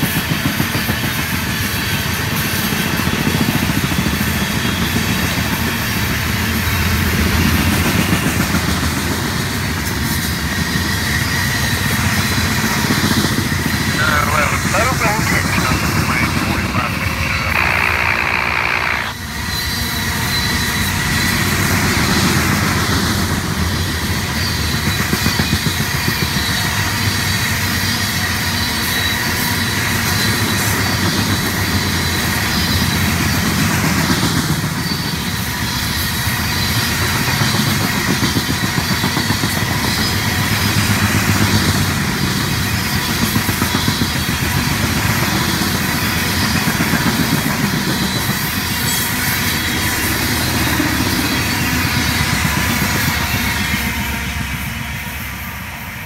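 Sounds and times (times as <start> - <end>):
train wheels rumbling on rails: 0.0 - 16.6, 19.2 - 56.0.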